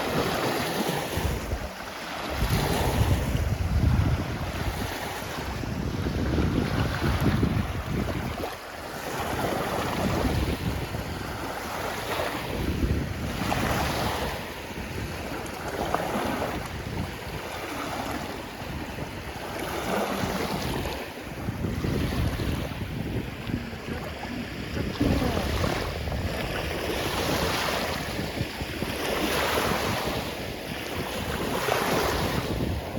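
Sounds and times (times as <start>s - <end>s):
waves washing onto shore: 0.0s - 32.9s
wind on microphone: 0.0s - 32.9s.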